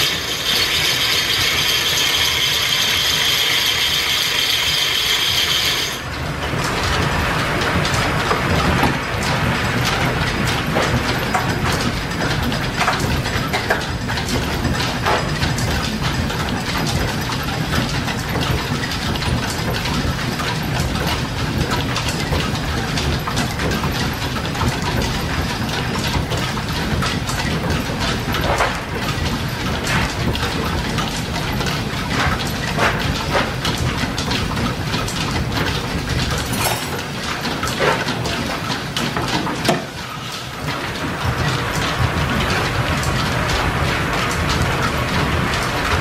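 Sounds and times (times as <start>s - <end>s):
rapid mechanical clatter: 0.0s - 46.0s.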